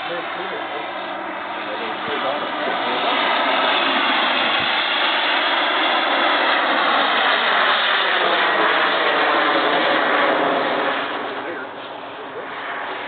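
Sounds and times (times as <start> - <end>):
gas turbine engine whine: 0.0 - 13.0.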